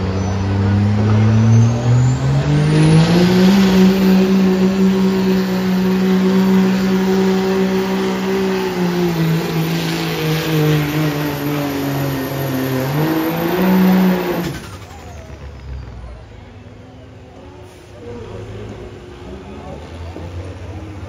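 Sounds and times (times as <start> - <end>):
diesel pickup engine at full throttle: 0.0 - 21.0.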